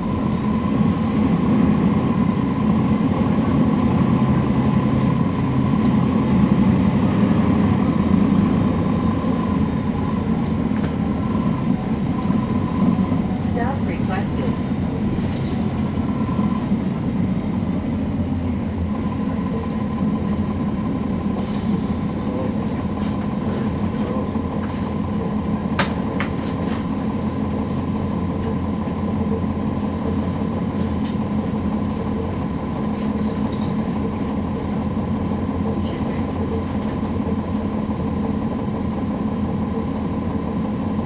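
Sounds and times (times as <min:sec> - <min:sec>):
bus engine drone: 0:00.0 - 0:41.0.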